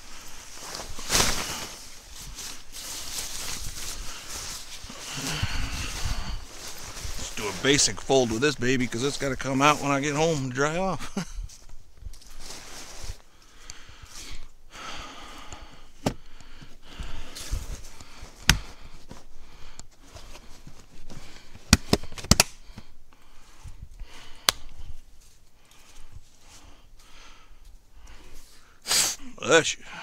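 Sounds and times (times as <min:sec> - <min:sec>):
camping gear rustling: 0:00.0 - 0:28.8.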